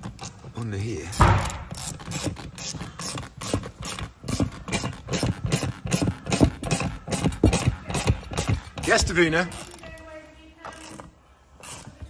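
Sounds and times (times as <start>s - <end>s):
ratchet wrench clicking: 1.1s - 10.0s, 10.7s - 12.0s.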